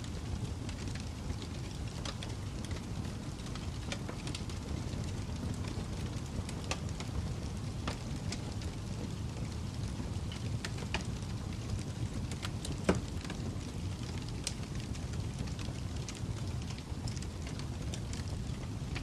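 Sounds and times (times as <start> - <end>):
fire crackling: 0.0 - 19.0
low rumble of burning: 0.0 - 19.0.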